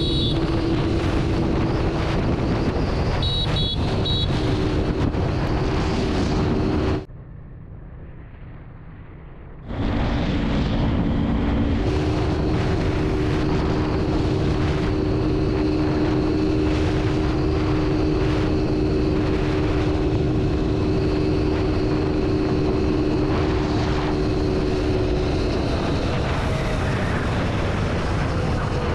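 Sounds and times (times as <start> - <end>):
motorcycle engine running: 0.0 - 5.6, 9.7 - 28.9
wind rumble on microphone: 0.0 - 28.9.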